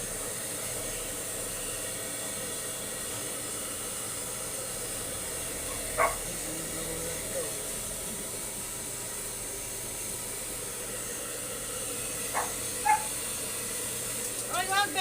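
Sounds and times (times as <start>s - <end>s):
blow dryer running: 0.0s - 15.0s.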